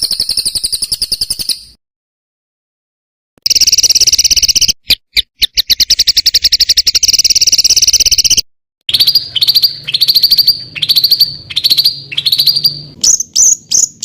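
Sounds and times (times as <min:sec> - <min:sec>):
songbird harsh rattling call: 0:00.0 - 0:01.8, 0:03.5 - 0:04.8, 0:05.4 - 0:14.0.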